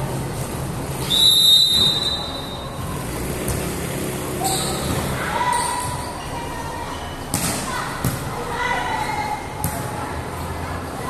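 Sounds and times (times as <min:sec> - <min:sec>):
hubbub of players and onlookers: 0:00.0 - 0:11.0.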